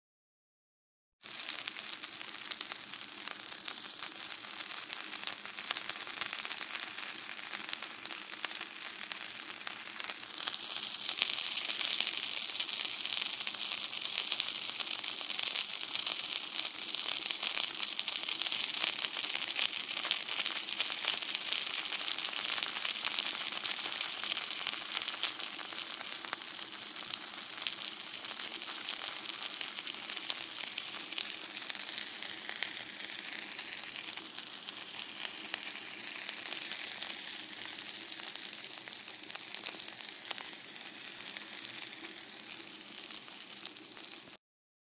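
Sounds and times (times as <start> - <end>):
food sizzling in frying pan: 1.2 - 44.4.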